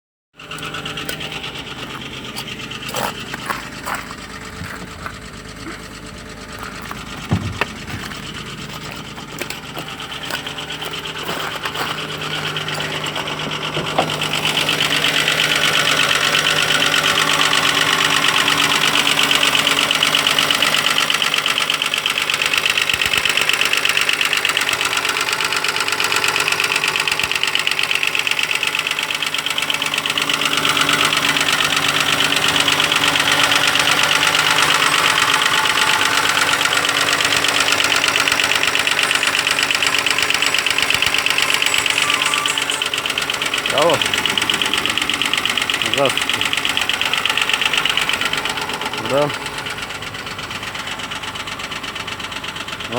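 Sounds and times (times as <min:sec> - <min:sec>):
car engine knocking: 0:00.3 - 0:52.9.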